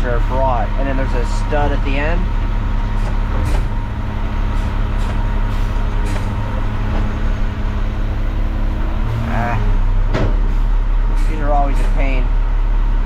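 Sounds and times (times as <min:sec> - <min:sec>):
garbage truck engine running: 0:00.0 - 0:13.0.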